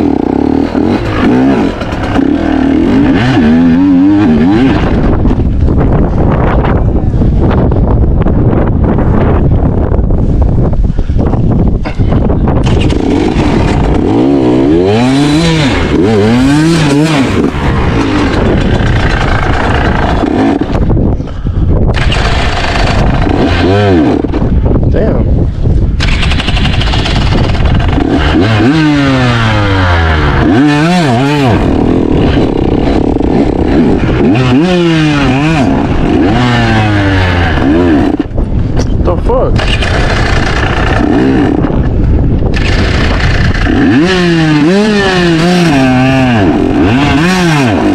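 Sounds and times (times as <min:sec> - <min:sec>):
dirt bike engine revving: 0:00.0 - 0:07.7, 0:12.5 - 0:21.3, 0:21.9 - 0:25.2, 0:25.9 - 0:38.6, 0:39.5 - 0:47.9
wind noise on microphone: 0:00.0 - 0:47.9.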